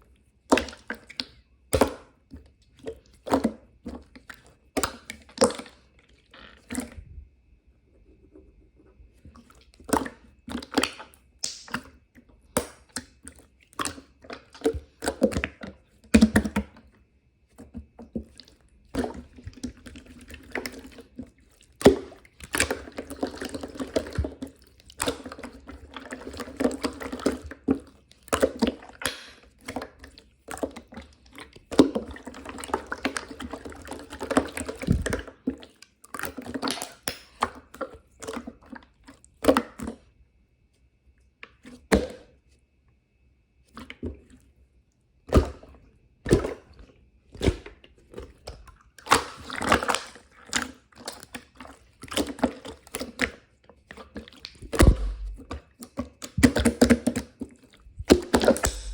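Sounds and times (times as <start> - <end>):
wet clicking and squishing: 0.4 - 7.0, 9.3 - 17.0, 17.6 - 40.0, 45.3 - 58.9.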